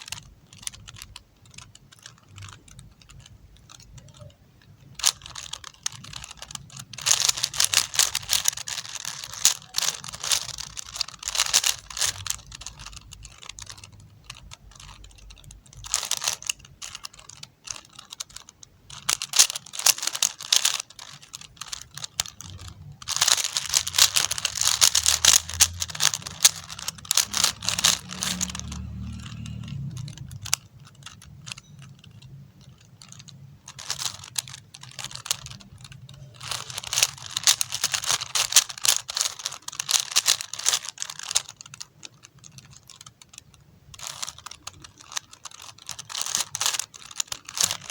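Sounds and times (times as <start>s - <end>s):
puzzle cube clicking: 0.0s - 47.9s.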